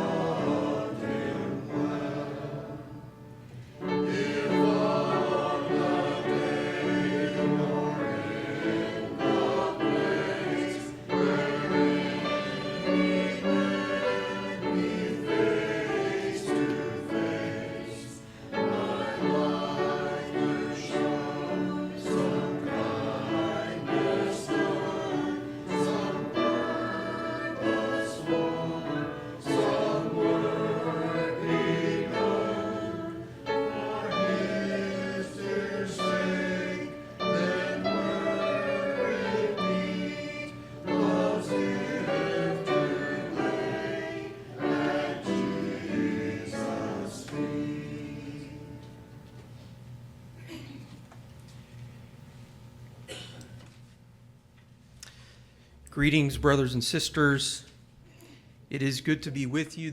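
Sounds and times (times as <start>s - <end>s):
group singing a hymn: 0.0s - 49.7s.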